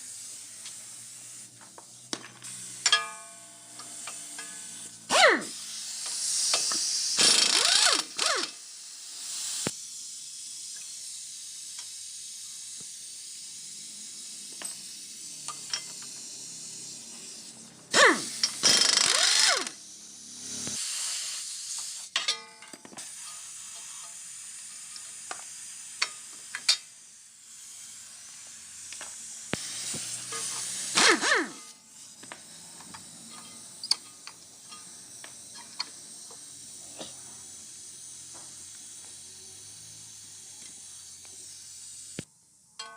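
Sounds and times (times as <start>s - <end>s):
loud hissing bursts: 0.0s - 2.9s, 3.9s - 22.2s, 23.0s - 42.3s.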